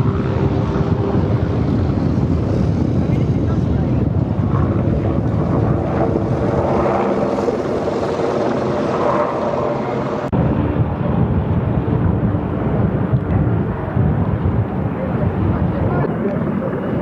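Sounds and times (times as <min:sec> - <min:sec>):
aircraft engines droning overhead: 0:00.0 - 0:17.0
wind on microphone: 0:00.0 - 0:17.0.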